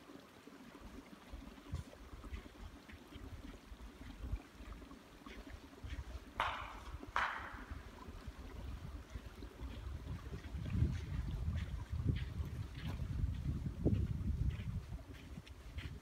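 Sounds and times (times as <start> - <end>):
wind rumbling on microphone: 0.9 - 16.0.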